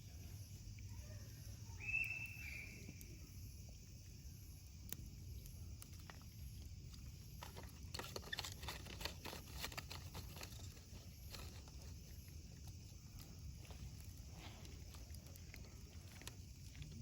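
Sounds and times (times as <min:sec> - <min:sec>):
bonfire crackling and popping: 0:01.8 - 0:17.0.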